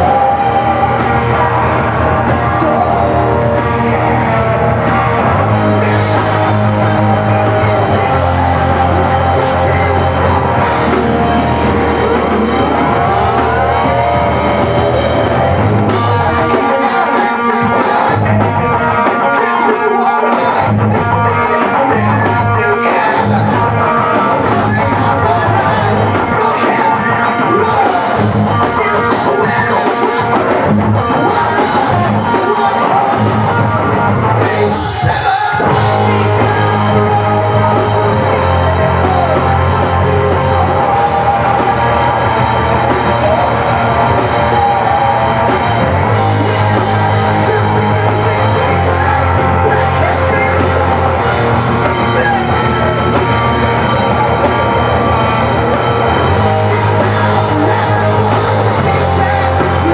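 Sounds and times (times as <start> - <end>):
drum kit: 0.0 - 59.9
electric guitars: 0.0 - 59.9
person singing: 0.0 - 59.9.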